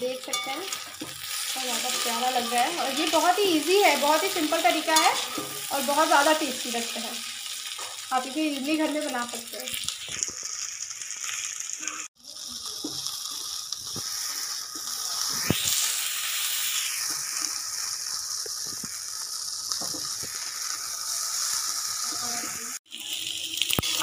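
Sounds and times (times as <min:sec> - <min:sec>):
food deep-frying in hot oil: 0:00.0 - 0:24.0.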